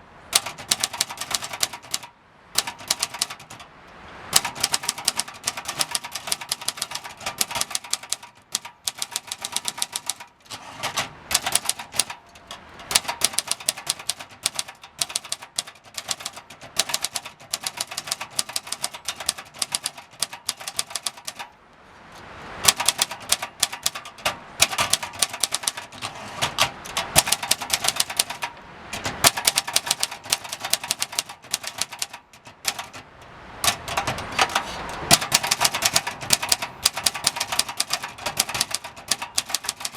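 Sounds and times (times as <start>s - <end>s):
typewriter keys clacking: 0.3s - 21.5s, 22.6s - 39.9s.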